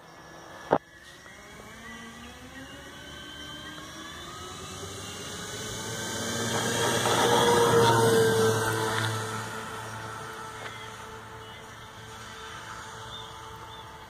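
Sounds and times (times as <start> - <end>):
model plane propellers whirring: 0.0 - 14.0.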